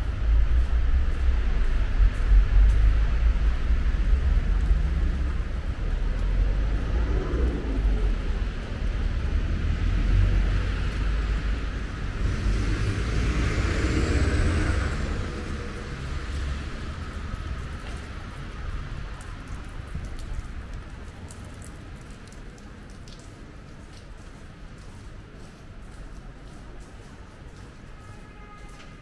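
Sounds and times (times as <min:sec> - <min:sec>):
low rumble of road traffic: 0:00.0 - 0:29.0.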